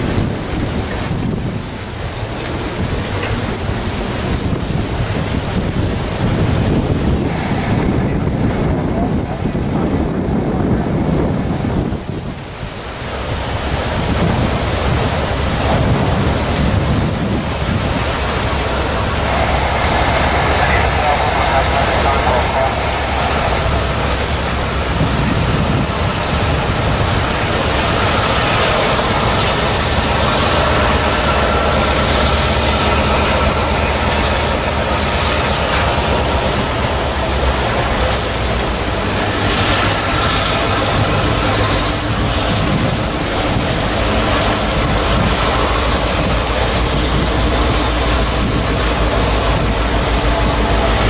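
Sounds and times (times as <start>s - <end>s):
diesel locomotive engine hum: 0.0s - 51.0s
freight train rumbling on rails: 0.0s - 51.0s.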